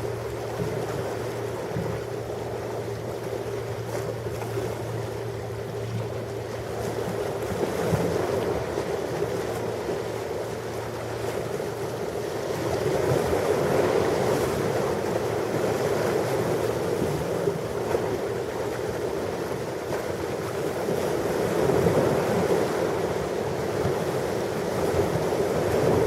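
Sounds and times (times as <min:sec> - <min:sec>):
ocean waves washing in: 0:00.0 - 0:26.0.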